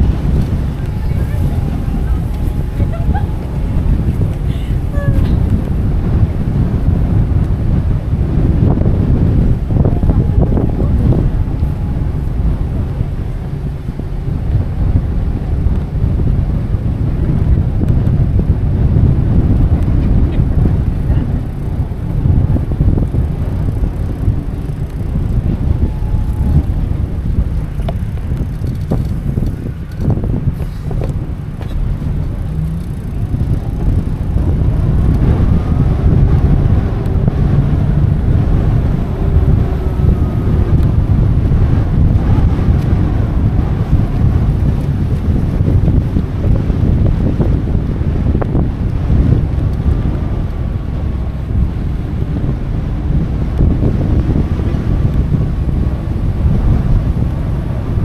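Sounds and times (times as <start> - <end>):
road noise: 0.0 - 58.0
wind buffeting microphone: 0.0 - 58.0.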